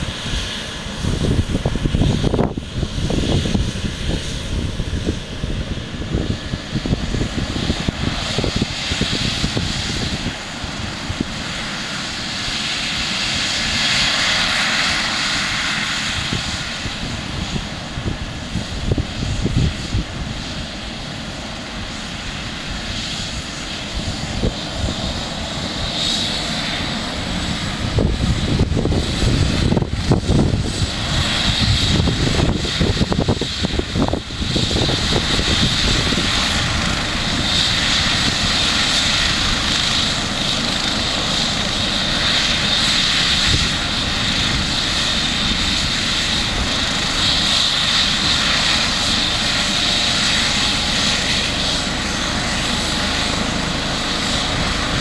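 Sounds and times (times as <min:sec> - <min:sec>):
helicopter rotor noise: 0:00.0 - 0:55.0
helicopter turbine whine: 0:00.0 - 0:55.0
wind on microphone: 0:00.0 - 0:55.0.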